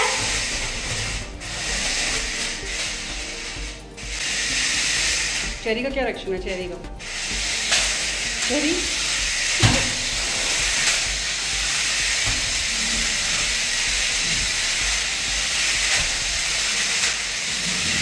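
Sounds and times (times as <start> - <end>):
toy car motor whirring: 0.0 - 18.0.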